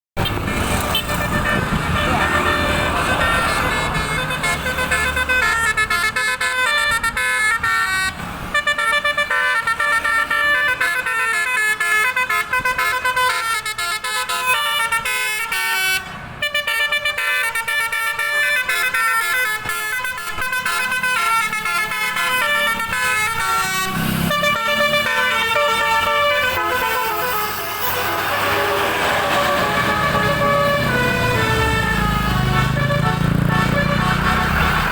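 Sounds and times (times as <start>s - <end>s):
bus musical air horn tune: 0.8s - 34.9s.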